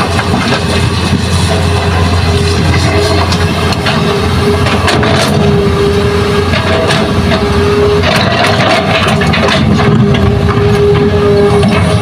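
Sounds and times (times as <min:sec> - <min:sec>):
knocks of earth and stones: 0:00.0 - 0:05.6, 0:06.4 - 0:12.0
excavator diesel engine running: 0:00.0 - 0:12.0.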